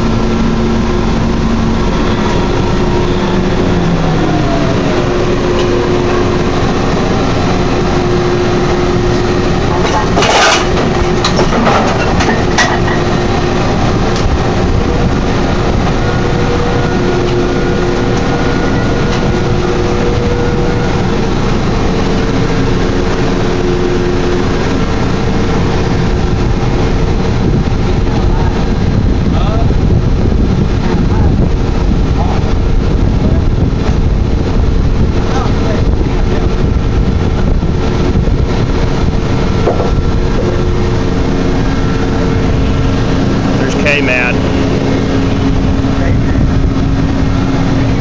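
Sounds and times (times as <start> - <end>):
drilling rig machinery running: 0.0 - 48.0.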